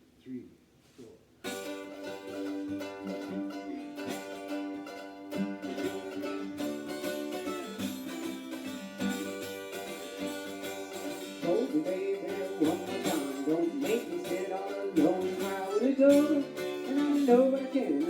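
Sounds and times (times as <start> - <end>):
country music on plucked strings: 1.4 - 18.0.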